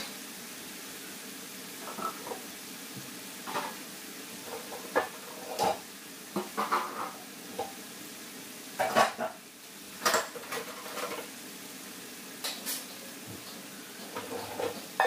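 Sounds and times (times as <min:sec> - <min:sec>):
chilies sizzling in oil: 0:00.0 - 0:15.0.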